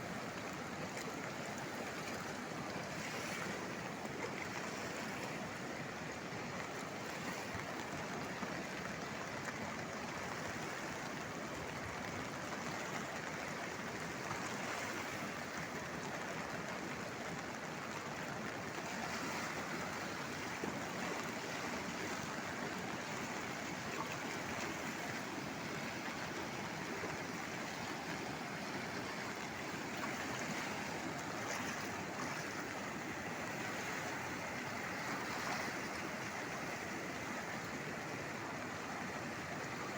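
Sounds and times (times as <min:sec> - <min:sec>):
flooded river roaring: 0:00.0 - 0:39.9.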